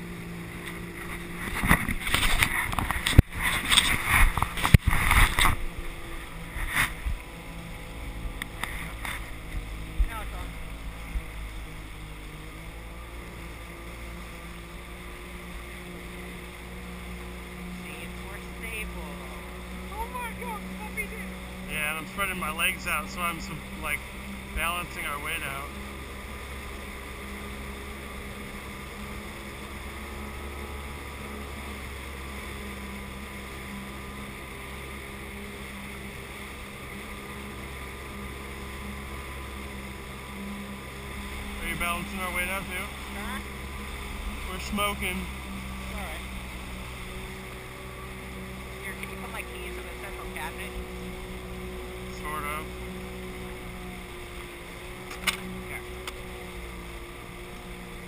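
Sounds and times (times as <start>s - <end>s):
personal watercraft engine running: 0.0s - 58.0s
water splashing along hull: 0.0s - 58.0s.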